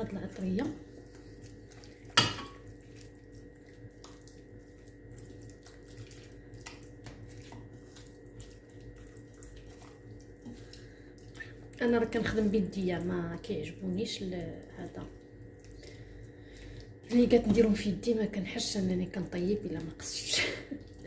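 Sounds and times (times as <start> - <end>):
hands mixing fish in marinade: 0.0 - 21.0
wet squelching: 0.0 - 21.0.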